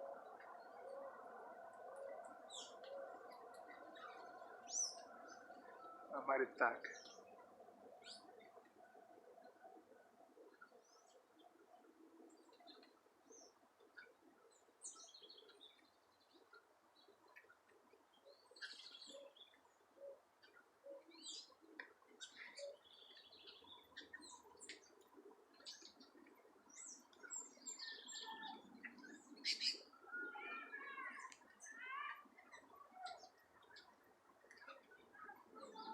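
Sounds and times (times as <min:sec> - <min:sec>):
birds chirping and calling: 0:00.0 - 0:35.9.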